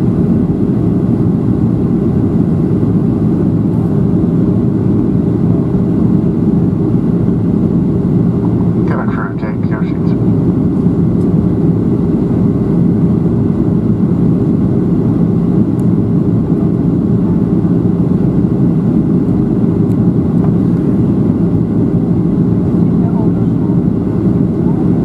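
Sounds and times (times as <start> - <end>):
jet engine and airflow roar: 0.0 - 25.0
steady low hum: 0.0 - 25.0.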